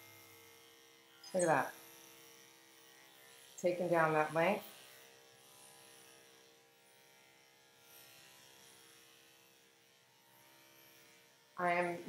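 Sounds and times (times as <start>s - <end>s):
pet clipper buzzing: 0.0s - 12.0s.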